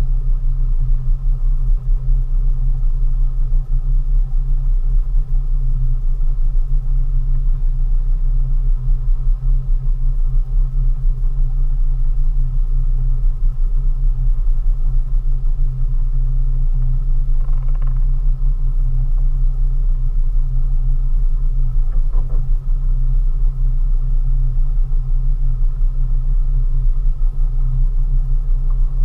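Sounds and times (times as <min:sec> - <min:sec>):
outboard motor droning: 0:00.0 - 0:29.0.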